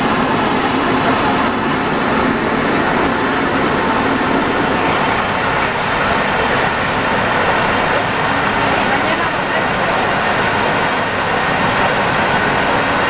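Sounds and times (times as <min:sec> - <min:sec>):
metro train rolling: 0:00.0 - 0:13.0.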